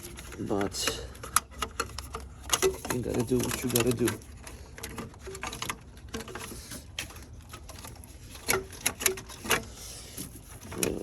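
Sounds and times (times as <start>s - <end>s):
clicks and knocks of plastic pipe: 0.0s - 11.0s.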